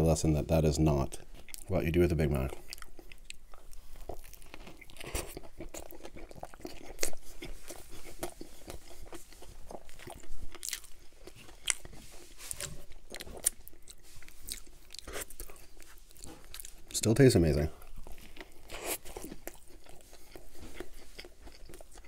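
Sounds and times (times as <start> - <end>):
wet chewing: 1.2 - 1.7, 2.4 - 17.0, 17.8 - 22.0.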